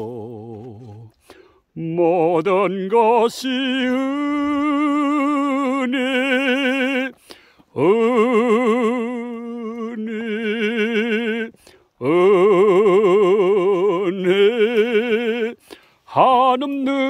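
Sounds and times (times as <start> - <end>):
person singing with vibrato: 0.0 - 17.0.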